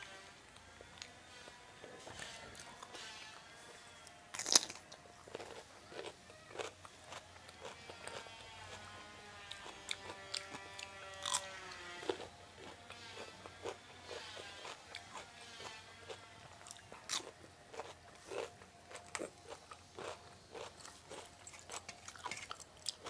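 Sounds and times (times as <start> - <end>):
crunching and chewing food: 0.0 - 23.0.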